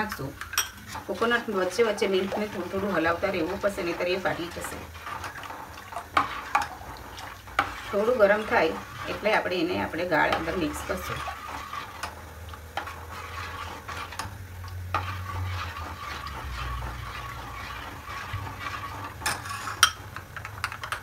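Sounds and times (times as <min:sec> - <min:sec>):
metal spoon scraping saucepan: 0:00.0 - 0:21.0.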